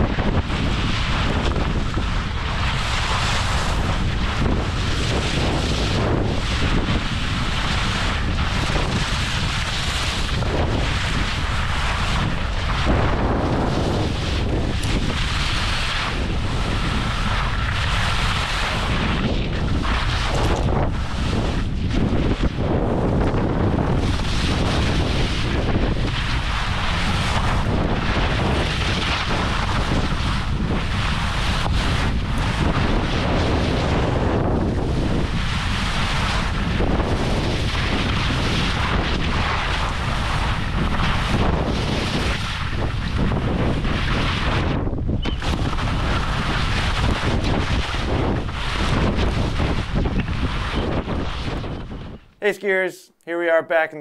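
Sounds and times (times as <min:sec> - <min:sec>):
skis carving on snow: 0:00.0 - 0:44.8, 0:45.4 - 0:51.6
wind buffeting microphone: 0:00.0 - 0:52.5.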